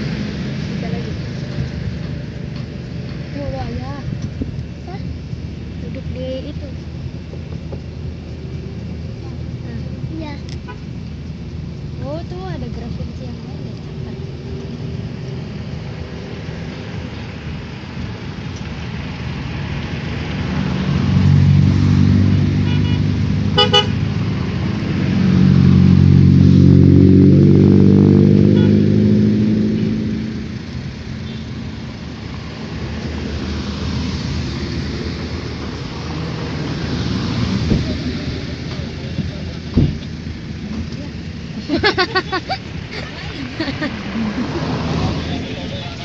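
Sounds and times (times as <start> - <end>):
buses passing: 0.0 - 46.0.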